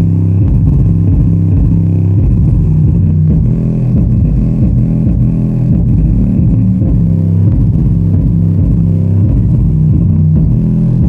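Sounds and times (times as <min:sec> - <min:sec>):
bass-heavy music through subwoofers: 0:00.0 - 0:11.0.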